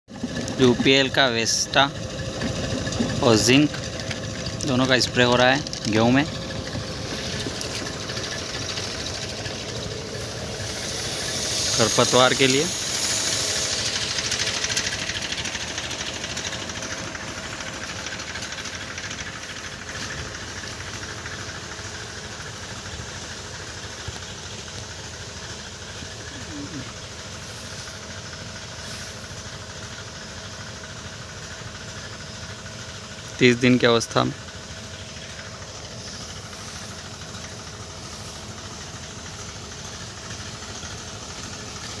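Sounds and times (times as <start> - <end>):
backpack sprayer engines running: 0.1 - 42.0.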